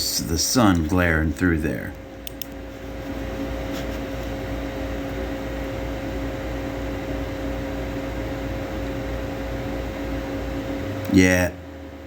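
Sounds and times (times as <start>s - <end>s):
machine hum with held tones: 0.0s - 12.0s.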